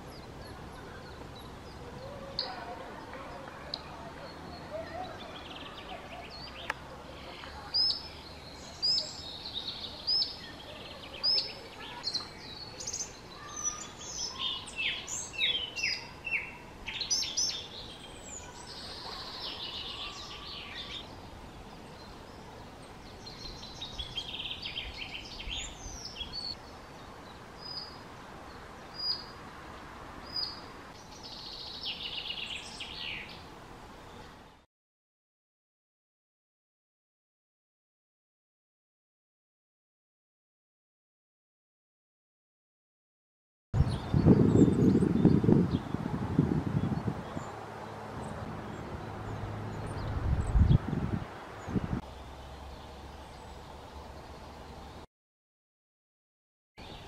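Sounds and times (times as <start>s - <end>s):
songbirds chirping and chattering: 0.0s - 34.6s, 43.8s - 55.1s, 56.8s - 57.0s.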